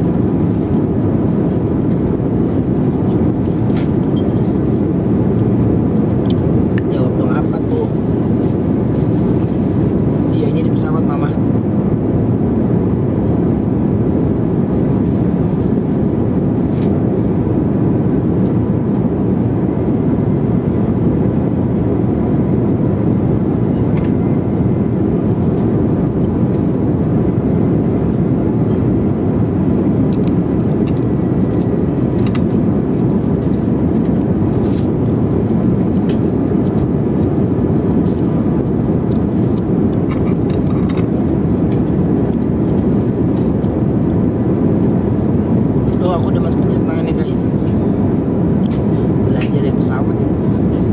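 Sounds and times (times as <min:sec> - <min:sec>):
airliner cabin drone: 0:00.0 - 0:50.9.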